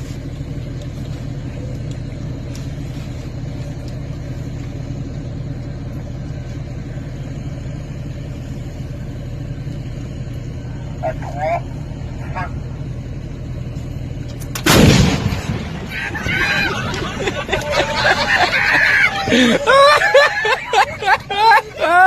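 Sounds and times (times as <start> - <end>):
large engine idling: 0.0 - 22.0.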